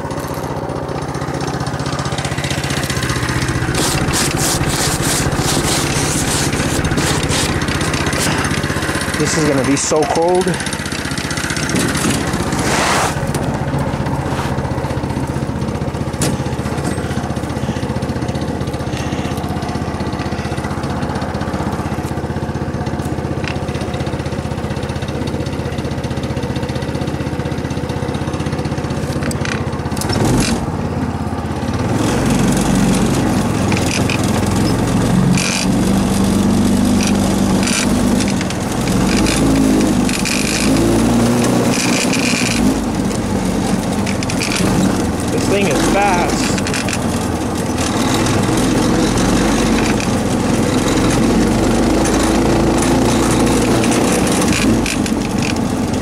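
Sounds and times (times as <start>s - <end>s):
go kart engine running: 0.0s - 56.0s.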